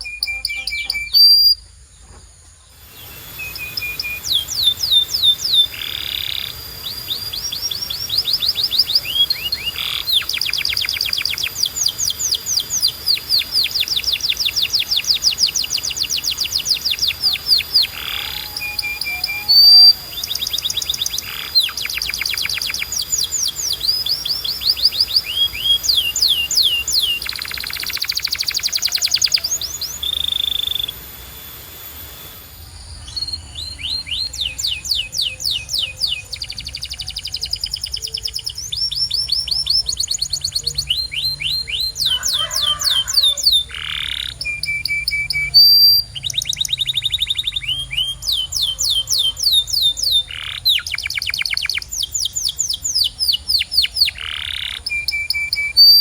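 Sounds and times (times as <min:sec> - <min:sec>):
canary singing trills: 0:00.0 - 0:01.8, 0:02.7 - 0:56.0.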